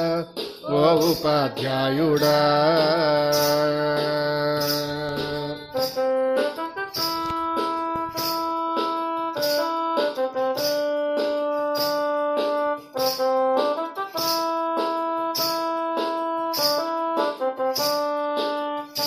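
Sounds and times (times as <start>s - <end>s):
keyboard melody: 0.0s - 19.0s
percussion beat: 0.0s - 19.0s.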